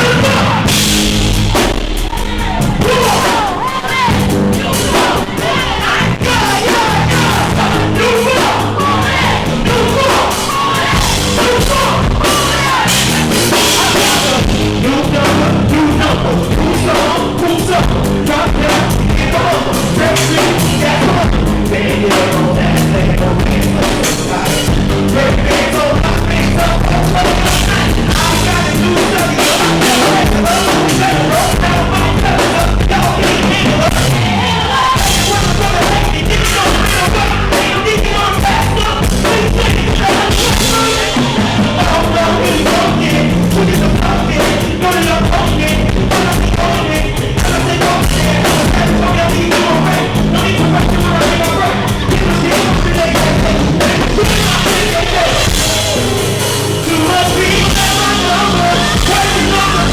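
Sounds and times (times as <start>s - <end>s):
lead vocal singing: 0.0s - 59.9s
live band playing loud music: 0.0s - 59.9s.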